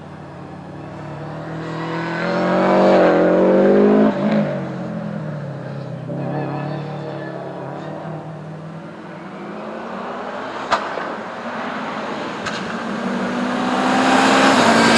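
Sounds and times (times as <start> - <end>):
race car passing at full throttle: 0.0 - 14.9.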